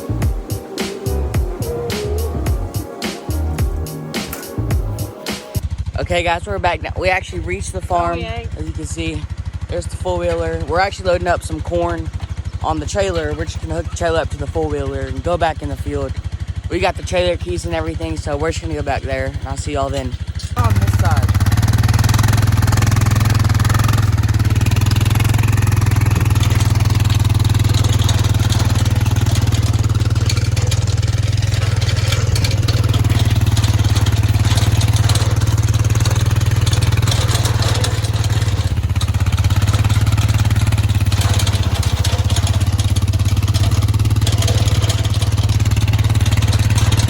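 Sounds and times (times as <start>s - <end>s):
atv engine running: 0.0s - 47.0s.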